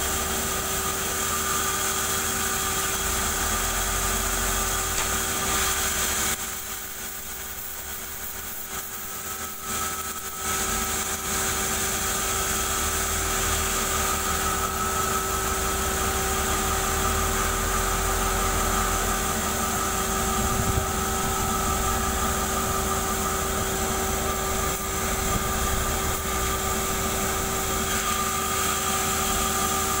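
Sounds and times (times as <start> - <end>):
band sawmill hum and whine: 2.9 - 30.0.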